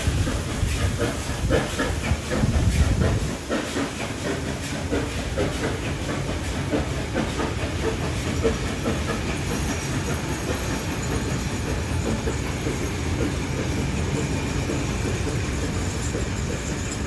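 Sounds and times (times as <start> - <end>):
locomotive exhaust beat: 0.0 - 17.0
steam hissing: 0.0 - 17.0
train wheels clicking over rails: 0.0 - 17.0.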